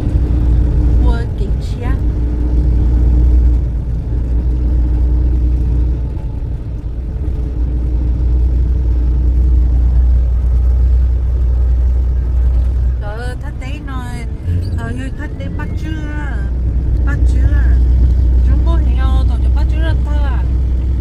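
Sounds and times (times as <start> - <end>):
truck driving rumble: 0.0 - 21.0.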